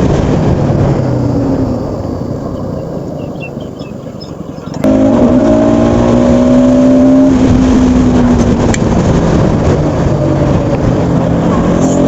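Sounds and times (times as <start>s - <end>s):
motorcycle engine running hard: 0.0s - 12.0s
wind rush over microphone: 0.0s - 12.0s.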